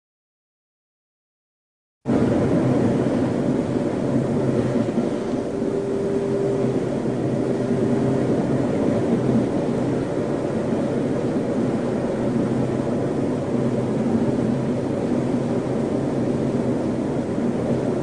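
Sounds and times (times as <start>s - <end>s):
faint steady hum: 2.1s - 18.0s
tornado wind roaring: 2.1s - 18.0s.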